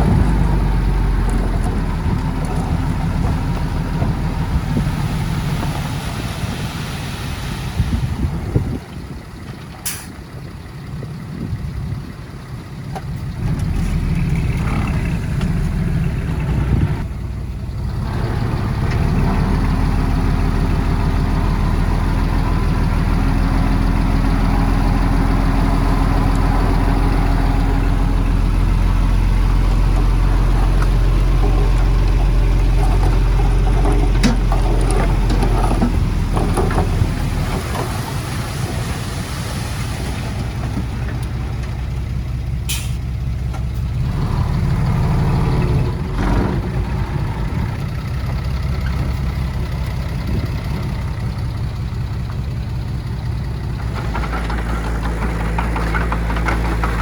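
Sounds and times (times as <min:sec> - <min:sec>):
diesel machinery engine: 0:00.0 - 0:57.0.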